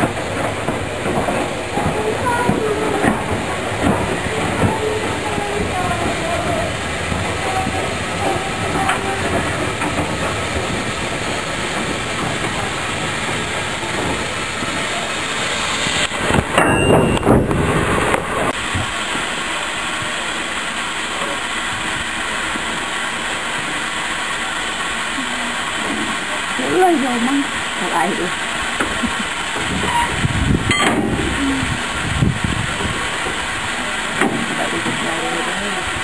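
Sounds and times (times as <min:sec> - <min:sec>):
steam locomotive hiss and rumble: 0:00.0 - 0:36.0.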